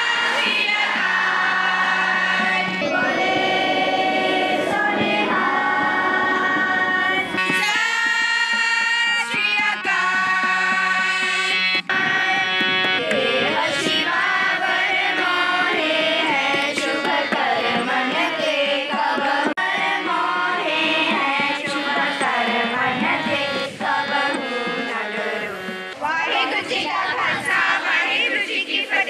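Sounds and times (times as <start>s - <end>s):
tabla: 0.0s - 3.6s, 6.3s - 26.1s
children singing a hymn: 0.0s - 8.2s, 11.8s - 29.0s.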